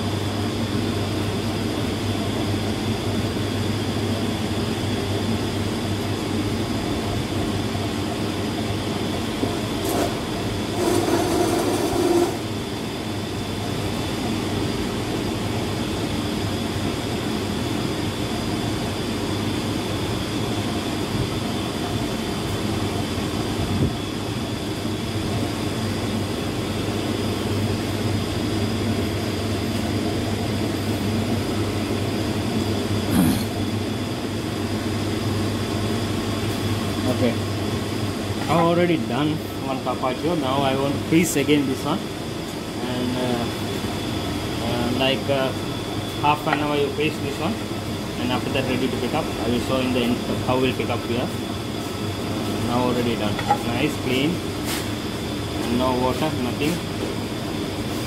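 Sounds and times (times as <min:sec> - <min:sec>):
machinery hum and rumble: 0:00.0 - 0:58.0.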